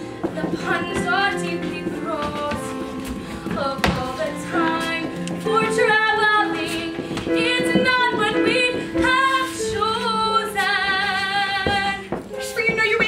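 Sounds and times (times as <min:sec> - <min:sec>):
instrumental accompaniment: 0:00.0 - 0:13.0
woman singing with vibrato: 0:00.2 - 0:13.0.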